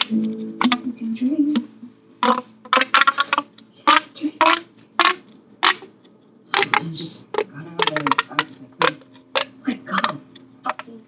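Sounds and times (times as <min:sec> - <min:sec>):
plastic pop tube popping: 0:00.0 - 0:11.0.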